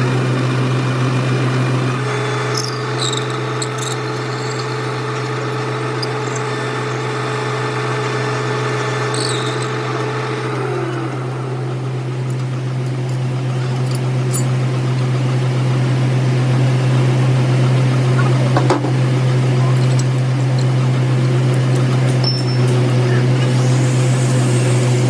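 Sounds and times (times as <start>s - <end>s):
metal lathe humming: 0.0s - 25.0s.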